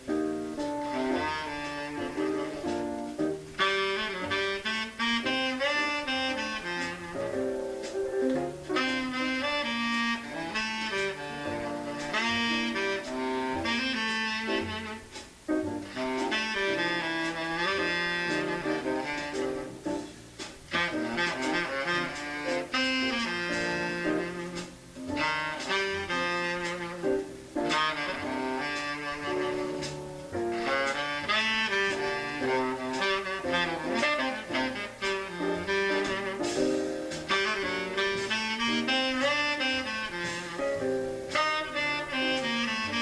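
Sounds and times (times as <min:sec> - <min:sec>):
double bass: 0:00.0 - 0:43.0
tenor saxophone playing: 0:00.6 - 0:15.2, 0:15.8 - 0:20.1, 0:20.7 - 0:43.0.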